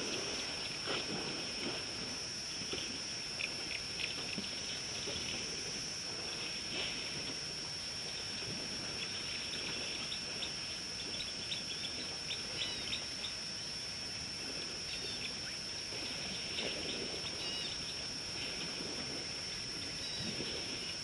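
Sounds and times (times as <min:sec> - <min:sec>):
steady high-pitched hum: 0:00.0 - 0:21.0.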